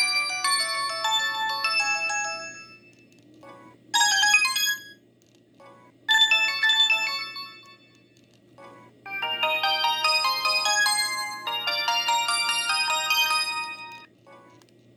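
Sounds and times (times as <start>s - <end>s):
polyphonic phone ringtone: 0.0s - 5.0s, 5.6s - 8.0s, 8.6s - 14.6s.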